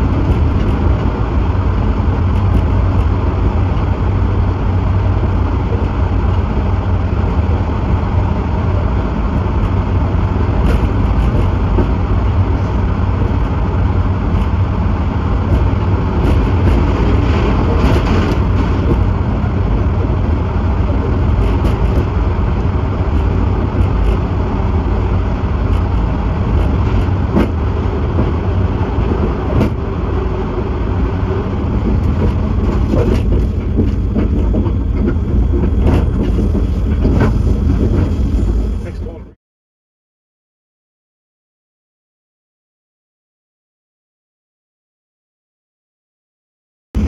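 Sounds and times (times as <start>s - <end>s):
wheels clicking on track: 0.0s - 39.2s
train rumbling in tunnel: 0.0s - 39.4s.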